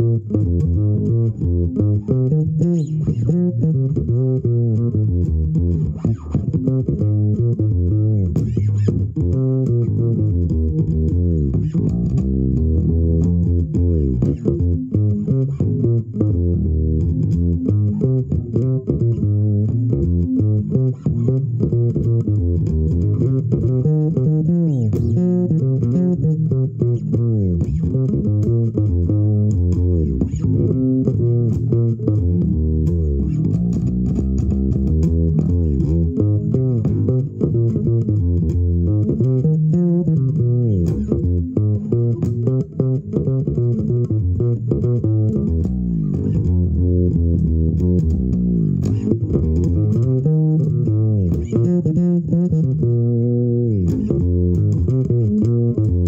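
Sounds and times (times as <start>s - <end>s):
fretless electric bass sliding notes: 0.0s - 56.0s.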